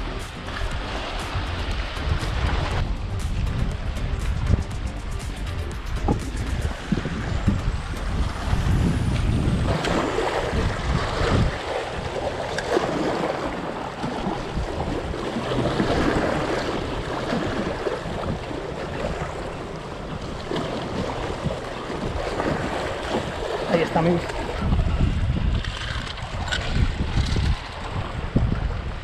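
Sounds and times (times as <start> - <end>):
wind buffeting microphone: 0.0 - 29.0
water splashing against rocks: 5.7 - 29.0.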